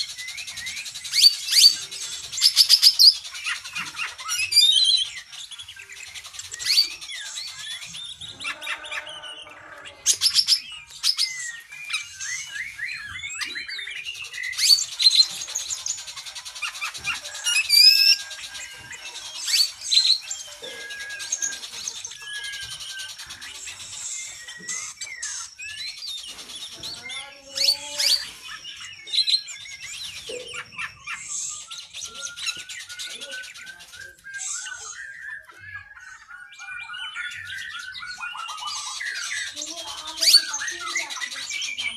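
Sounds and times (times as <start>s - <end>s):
magpie-robin singing: 0.0s - 41.9s.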